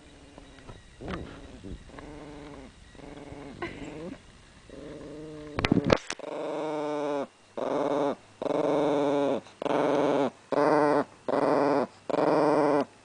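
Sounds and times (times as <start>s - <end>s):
small dog growling: 0.1s - 12.9s.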